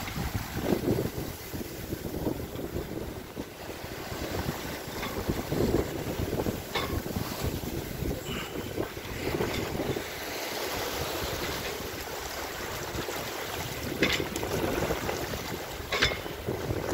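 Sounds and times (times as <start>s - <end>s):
sea water rushing past hull: 0.0s - 16.9s
wind on microphone: 0.0s - 16.9s.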